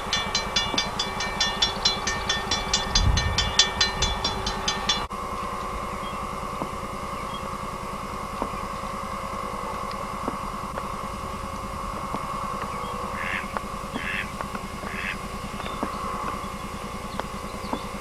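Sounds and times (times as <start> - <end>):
constant mid-pitched tone: 0.0 - 18.0
low hum and hiss: 0.0 - 18.0.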